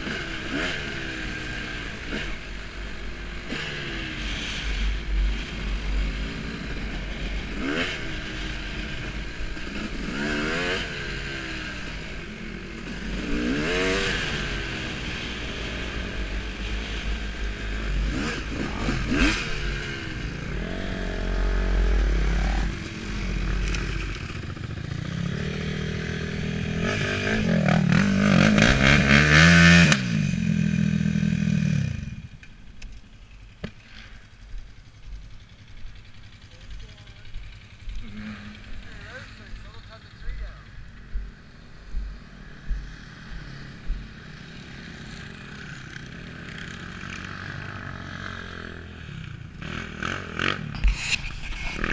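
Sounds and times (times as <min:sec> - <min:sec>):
dirt bike engine revving: 0:00.0 - 0:32.4, 0:35.8 - 0:51.9.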